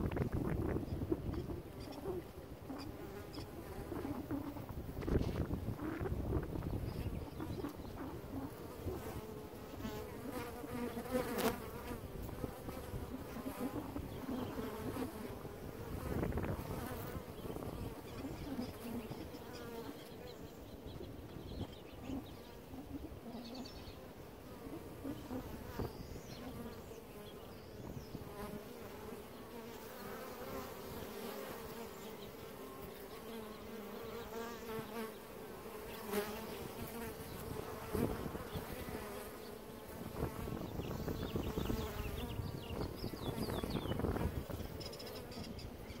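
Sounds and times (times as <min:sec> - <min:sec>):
bees flying past: 0:00.0 - 0:46.0
bees buzzing: 0:00.1 - 0:46.0.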